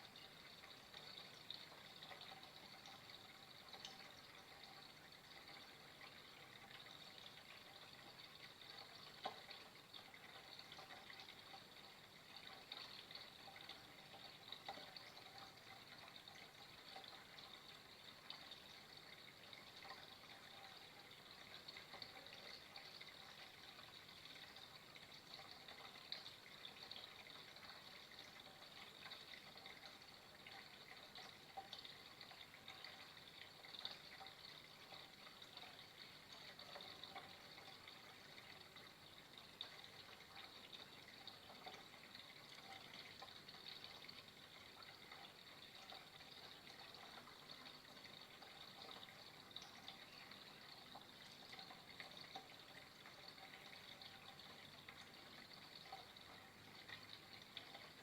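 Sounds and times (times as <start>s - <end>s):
trickling water with drips: 0.0s - 58.0s.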